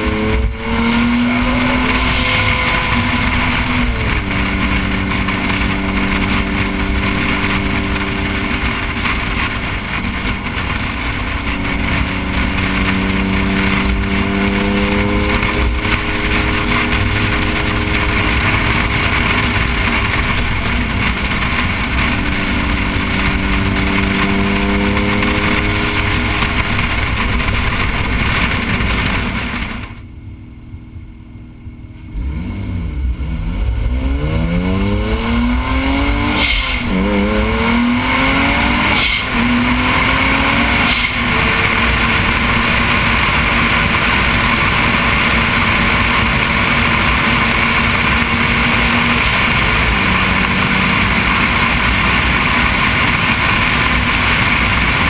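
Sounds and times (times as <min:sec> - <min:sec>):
car engine droning: 0:00.0 - 0:55.0
wind and road noise: 0:00.0 - 0:55.0.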